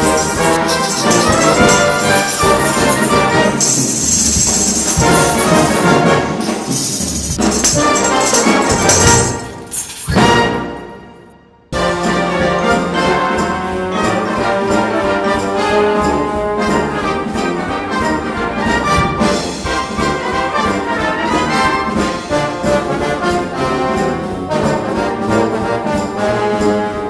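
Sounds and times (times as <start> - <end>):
brass band playing: 0.0 - 27.0.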